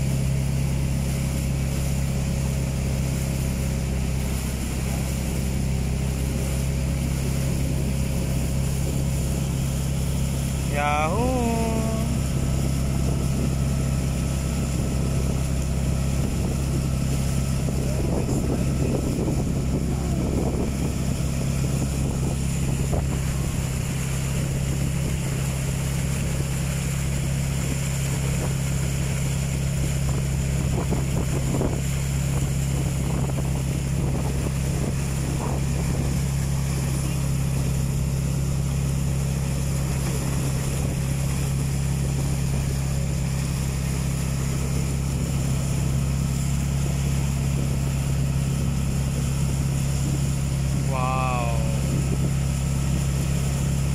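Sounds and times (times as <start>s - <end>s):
boat engine droning: 0.0s - 53.9s
water splashing along hull: 0.0s - 53.9s.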